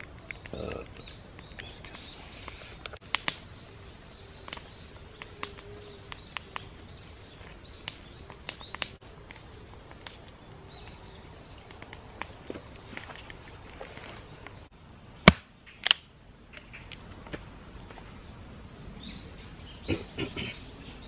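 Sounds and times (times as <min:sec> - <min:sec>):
birds chirping: 0:00.0 - 0:15.8, 0:16.4 - 0:21.0.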